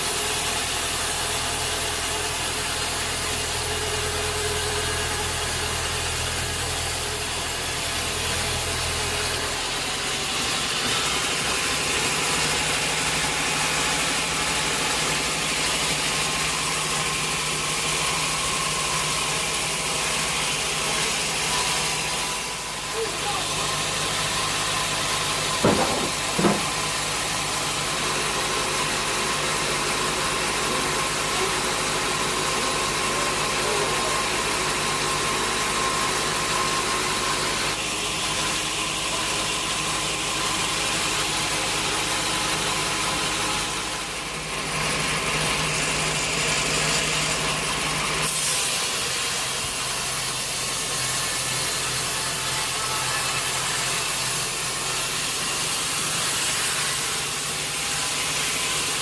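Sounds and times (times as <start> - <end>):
sawmill machinery motor hum: 0.0 - 59.0.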